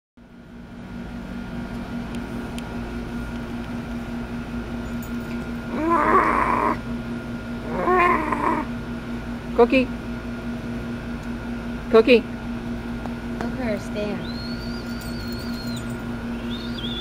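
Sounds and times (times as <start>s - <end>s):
steady hum: 0.2s - 17.0s.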